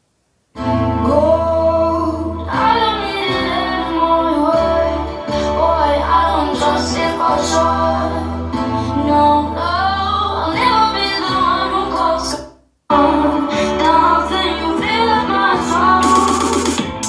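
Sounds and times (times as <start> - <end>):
bass line: 0.6 - 17.0
woman singing: 1.0 - 16.9.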